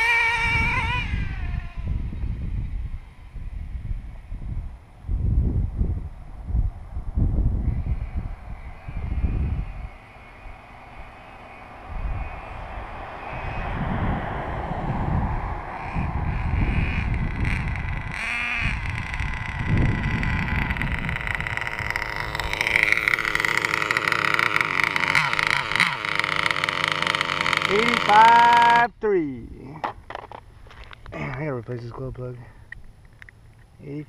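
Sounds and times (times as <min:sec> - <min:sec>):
rc car engine whine: 0:00.0 - 0:29.0
wind rumble on microphone: 0:00.0 - 0:33.8.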